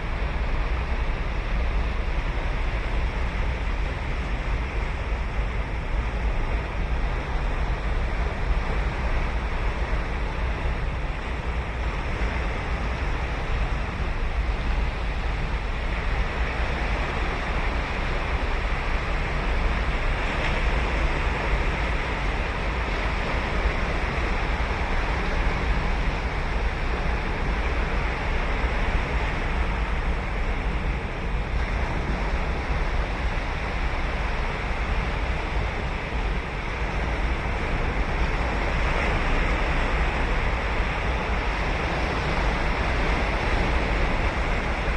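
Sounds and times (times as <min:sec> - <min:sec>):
low surf rumble: 0:00.0 - 0:44.9
waves breaking on shore: 0:00.0 - 0:44.9.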